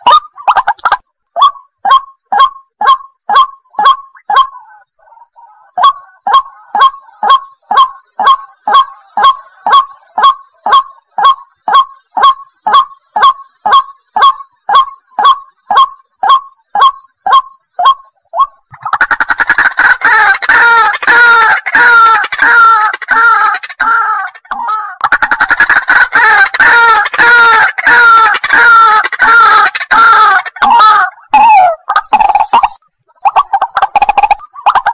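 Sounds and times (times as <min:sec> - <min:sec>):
waterhen calling: 0:02.3 - 0:34.9.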